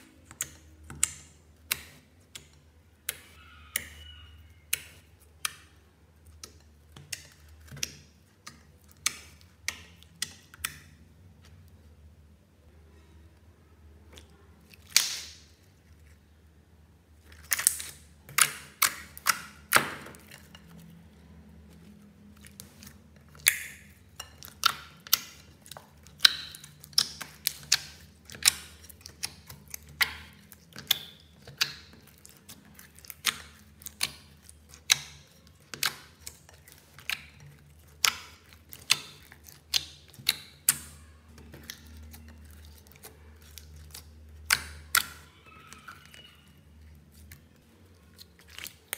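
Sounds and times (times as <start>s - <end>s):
fingers pressing wet slime: 0.0s - 11.7s, 14.1s - 15.6s, 17.2s - 20.6s, 22.4s - 48.9s.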